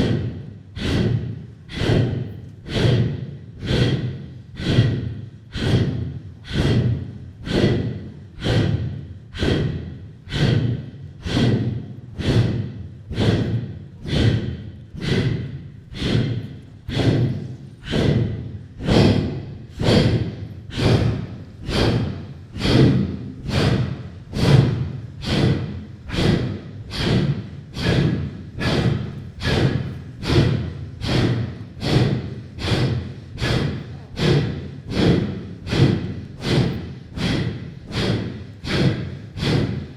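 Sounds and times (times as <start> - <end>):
sharp rhythmic breathing: 0.0 - 39.9.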